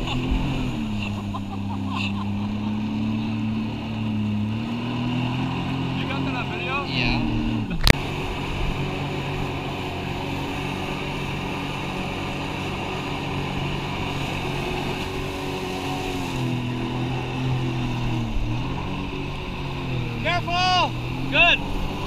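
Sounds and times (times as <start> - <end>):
water and wind hiss: 0.0 - 22.0
watercraft engine running: 0.0 - 22.0.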